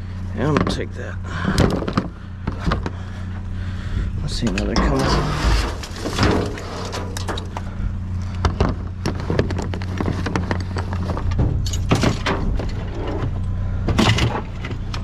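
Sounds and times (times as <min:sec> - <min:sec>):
engine idling: 0:00.0 - 0:15.0
junk clanking and rattling: 0:00.0 - 0:15.0.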